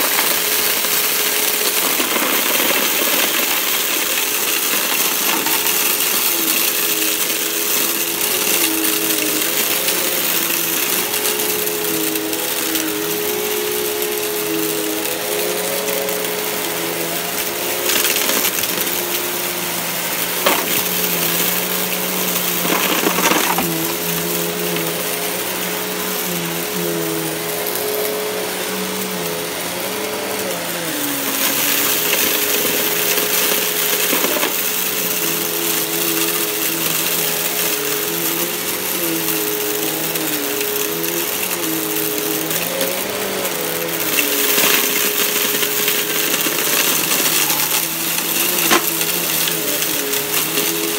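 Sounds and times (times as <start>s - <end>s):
grit rattling in vacuum: 0.0s - 50.9s
vacuum cleaner running on carpet: 0.0s - 50.9s.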